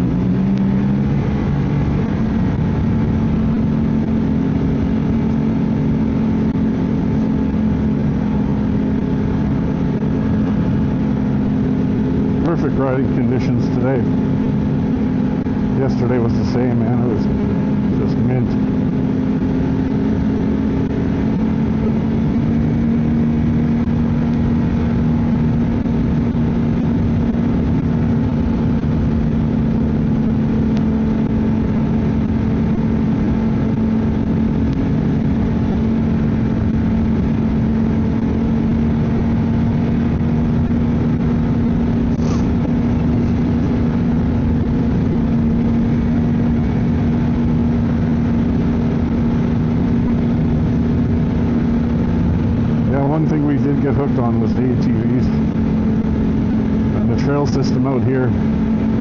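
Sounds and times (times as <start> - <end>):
snowmobile engine cruising: 0.0 - 59.0.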